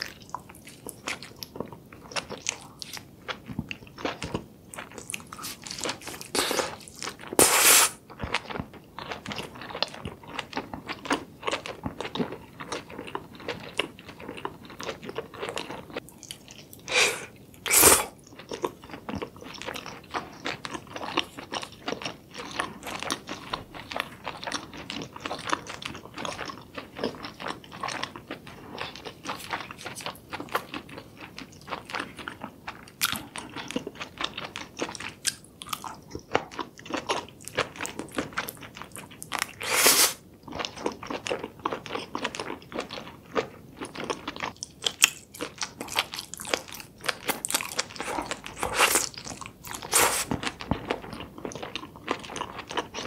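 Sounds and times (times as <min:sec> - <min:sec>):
close biting and chewing: 0:00.0 - 0:53.0.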